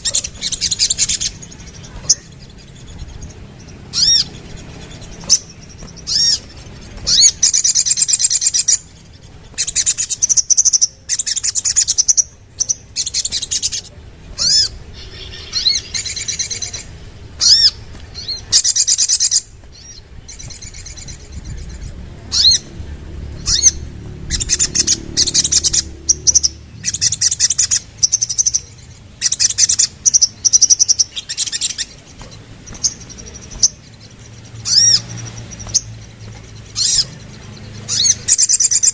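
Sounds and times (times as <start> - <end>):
bird chips: 0.0 - 38.9
bird twittering trills: 0.0 - 38.9.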